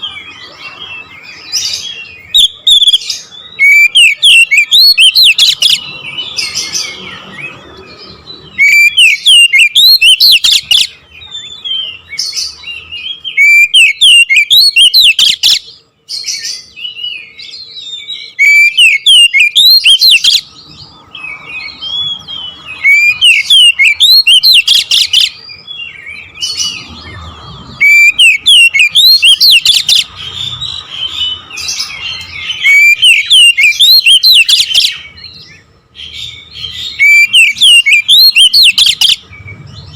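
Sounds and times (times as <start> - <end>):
quiet bird twittering: 0.0 - 39.9
bird whistling phrases: 0.7 - 5.8, 8.6 - 15.7, 16.4 - 20.5, 21.4 - 26.8, 27.8 - 35.4, 36.0 - 39.2.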